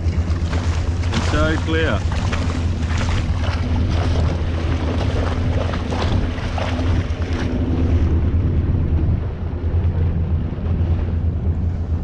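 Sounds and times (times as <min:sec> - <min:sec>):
motorboat engine drone: 0:00.0 - 0:12.0
water rushing along hull: 0:00.0 - 0:12.0
wind buffeting microphone: 0:00.0 - 0:12.0.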